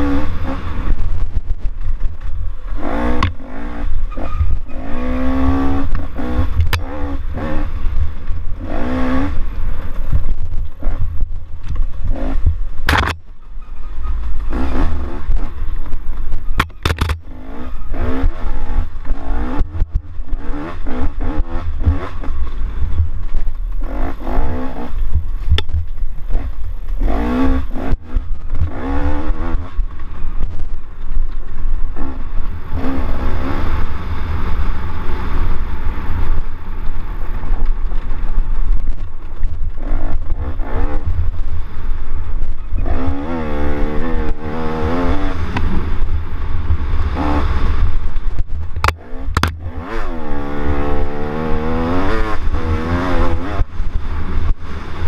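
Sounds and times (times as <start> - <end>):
engine revving: 0.0 - 1.3, 2.6 - 9.9, 10.7 - 13.3, 14.4 - 15.7, 16.6 - 25.7, 26.3 - 30.7, 31.9 - 36.6, 39.4 - 55.0
wind and bump rumble: 0.0 - 55.0.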